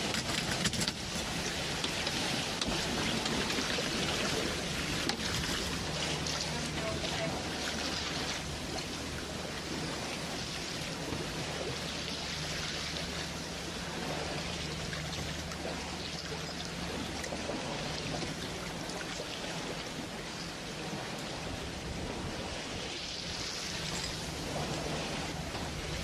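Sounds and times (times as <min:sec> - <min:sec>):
low steady hum: 0:00.0 - 0:26.0
rushing trickling water: 0:00.0 - 0:26.0.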